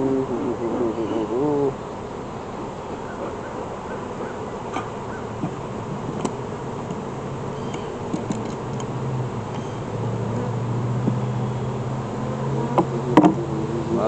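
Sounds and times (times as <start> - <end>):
honeybees buzzing: 0.0 - 14.0
hive frames clicking: 0.2 - 11.4, 12.0 - 13.9.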